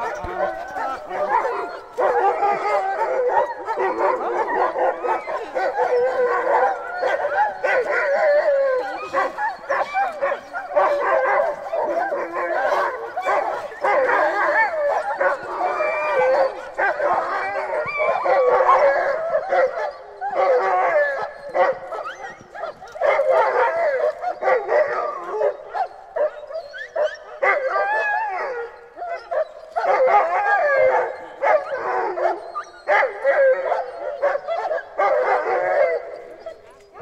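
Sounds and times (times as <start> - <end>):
dogs howling: 0.0 - 37.0.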